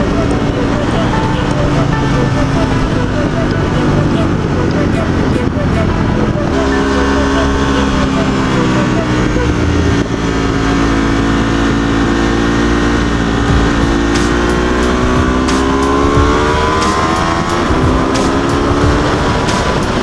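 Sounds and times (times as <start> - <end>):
motorcycle engine: 0.0 - 20.0.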